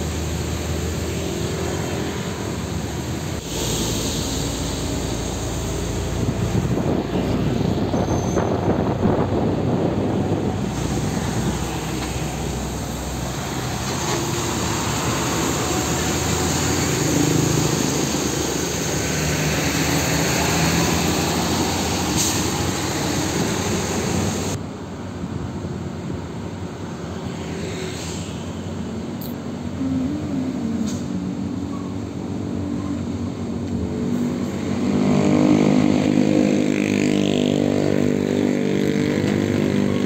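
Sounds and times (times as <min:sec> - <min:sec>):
road noise: 0:00.0 - 0:40.0
trucks passing on road: 0:00.0 - 0:40.0.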